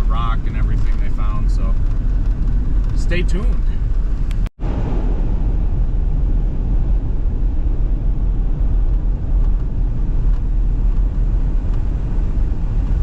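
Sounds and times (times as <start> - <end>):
loud low rumble: 0.0 - 13.0.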